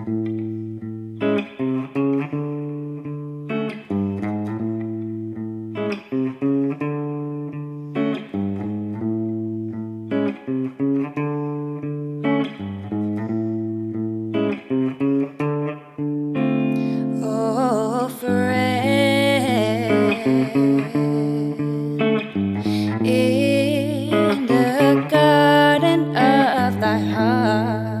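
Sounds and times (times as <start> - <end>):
picked guitar pattern: 0.0 - 28.0.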